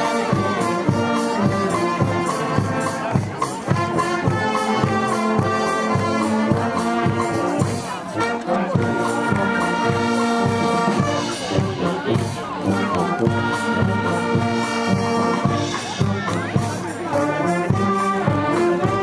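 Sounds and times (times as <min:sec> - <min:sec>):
brass band playing: 0:00.0 - 0:19.0
steady drum beat: 0:00.0 - 0:19.0.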